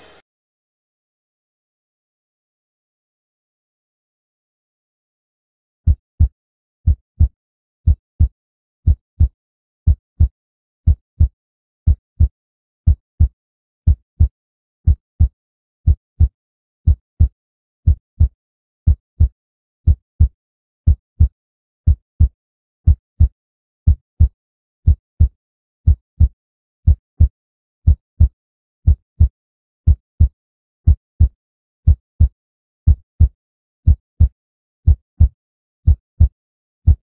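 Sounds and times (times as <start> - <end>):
slow heartbeat thumps: 5.9 - 37.0.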